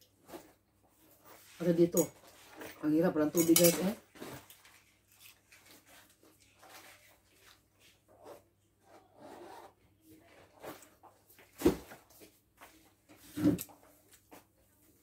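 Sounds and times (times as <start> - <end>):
faint rustling and rubbing: 0.1 - 3.1, 3.8 - 15.0.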